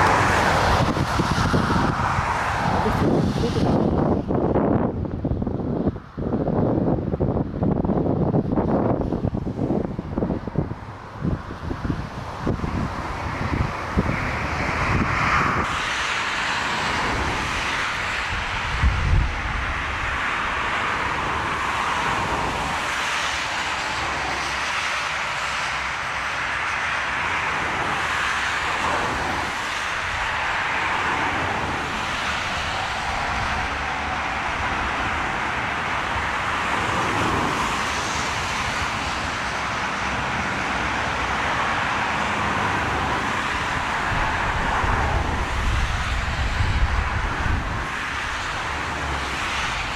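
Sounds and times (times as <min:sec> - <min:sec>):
jet airliner engines rushing: 0:00.0 - 0:49.9
wind gust on microphone: 0:00.0 - 0:49.9.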